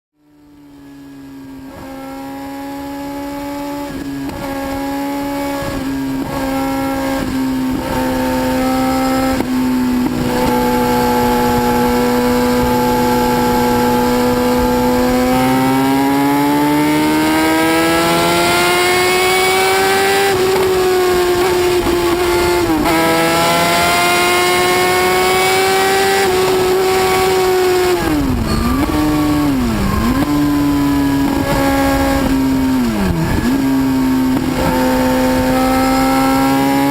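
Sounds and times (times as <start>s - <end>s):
motorcycle engine at high revs: 0.2s - 36.9s.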